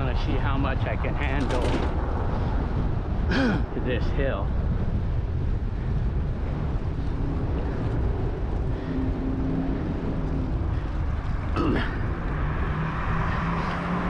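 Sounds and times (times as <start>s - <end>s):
road traffic: 0.0s - 14.0s
wind buffeting microphone: 0.0s - 14.0s.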